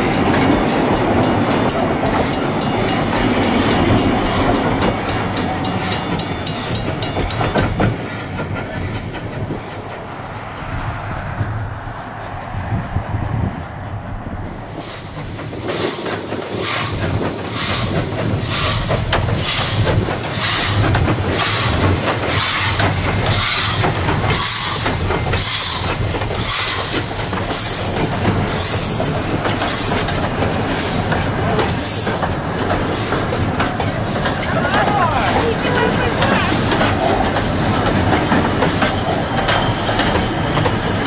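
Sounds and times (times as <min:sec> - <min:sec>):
steam locomotive chuffing: 0:00.0 - 0:10.6, 0:14.4 - 0:41.0
carriages rumbling on rails: 0:00.0 - 0:41.0.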